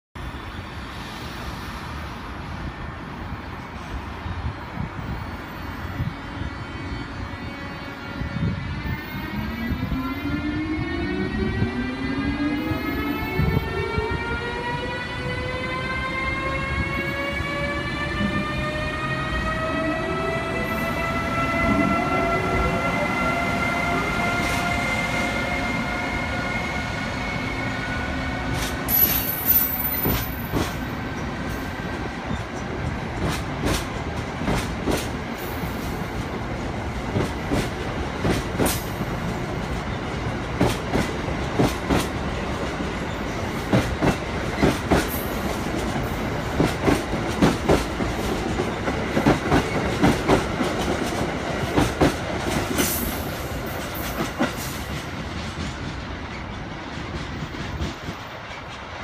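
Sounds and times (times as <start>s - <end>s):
electric locomotive whine: 0.2s - 59.0s
train rolling rumble: 0.2s - 59.0s.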